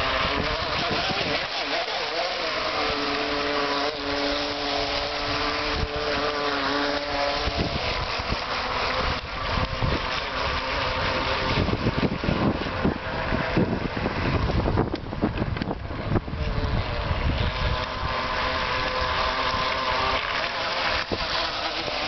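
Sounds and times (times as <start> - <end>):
wind buffeting microphone: 0.0 - 1.6, 2.3 - 22.0
toy boat electric motor whine: 0.0 - 22.0.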